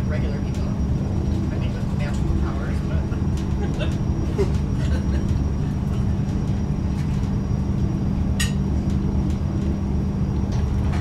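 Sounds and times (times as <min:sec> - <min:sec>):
constant hum: 0:00.0 - 0:11.0
train rumble inside car: 0:00.0 - 0:11.0.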